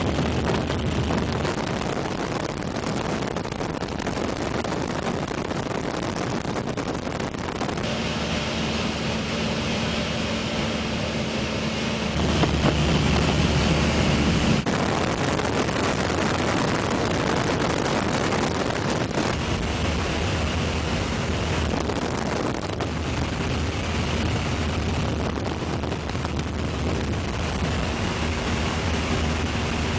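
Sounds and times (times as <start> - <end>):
aircraft engine drone: 0.0 - 4.8, 5.5 - 29.9
wind rushing over microphone: 0.0 - 29.9.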